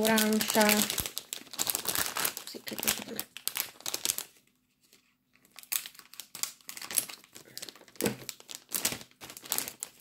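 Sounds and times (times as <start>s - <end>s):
plastic bag tearing: 0.0s - 4.4s, 5.4s - 10.0s
plastic bag crinkling: 0.0s - 10.0s.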